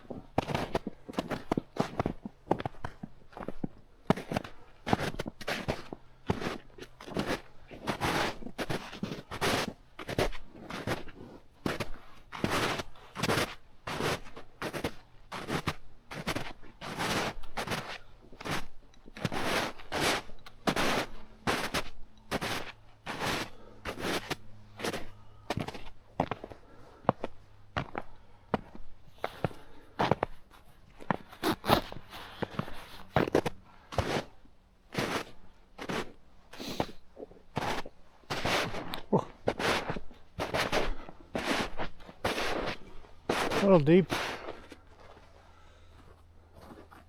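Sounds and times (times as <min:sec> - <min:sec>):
footsteps scuffing on ground: 0:00.4 - 0:37.0, 0:37.6 - 0:45.3.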